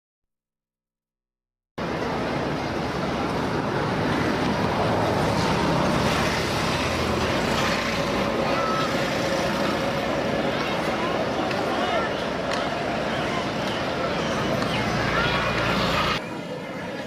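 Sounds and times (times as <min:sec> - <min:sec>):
vehicles: 0:01.8 - 0:17.0
voices: 0:03.2 - 0:17.0.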